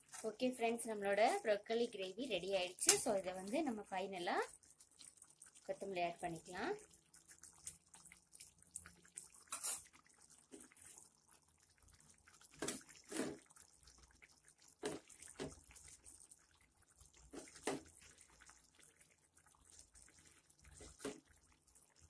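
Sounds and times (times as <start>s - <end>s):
gravy bubbles popping: 2.6s - 22.0s.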